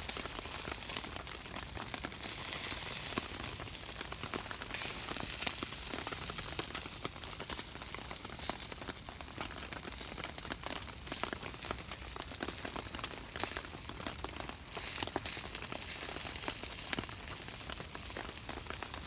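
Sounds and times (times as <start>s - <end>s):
food sizzling on a grill: 0.0s - 19.0s.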